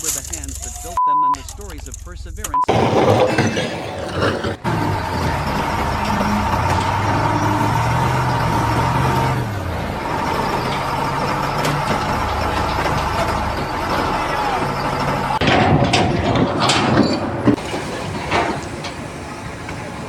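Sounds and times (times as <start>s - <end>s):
heavy vehicle engine under load: 2.6s - 20.0s.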